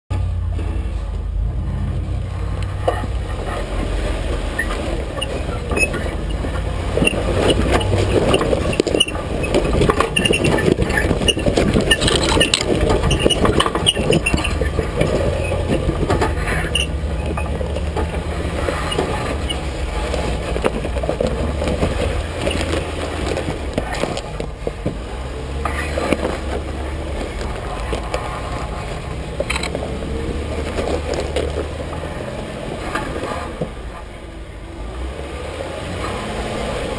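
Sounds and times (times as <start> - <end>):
engine running low: 0.1 - 36.9
underbody clanking and rattling: 2.2 - 35.1
tyres crunching on rock and gravel: 2.4 - 34.2.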